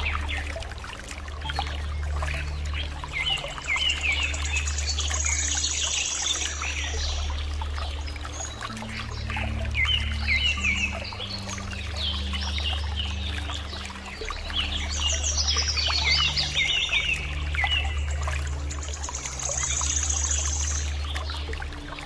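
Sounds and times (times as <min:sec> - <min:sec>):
background music with low notes: 0:00.0 - 0:22.0.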